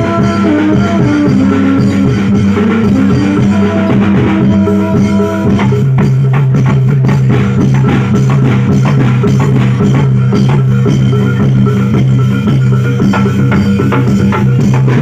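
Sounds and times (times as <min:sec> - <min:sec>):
drums and struck percussion: 0:00.0 - 0:15.0.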